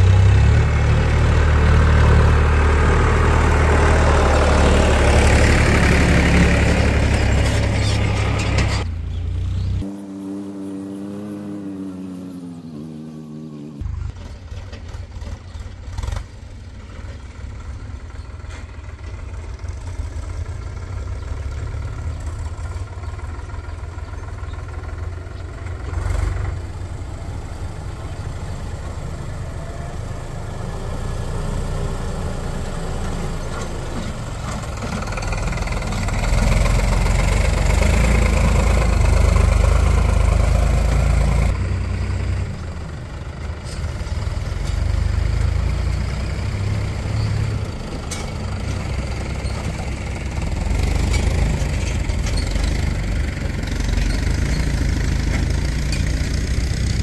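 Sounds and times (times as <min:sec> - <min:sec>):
diesel tractor engines rumbling: 0:00.0 - 0:57.0
tractor passing close: 0:00.0 - 0:57.0.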